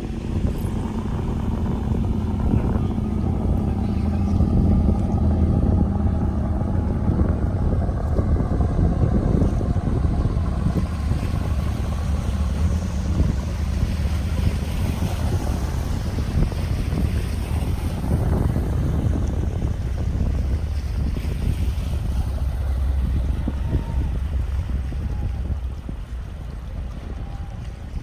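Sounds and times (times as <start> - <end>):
low rumble of boat traffic: 0.0 - 28.0
wind buffeting microphone: 0.0 - 28.0.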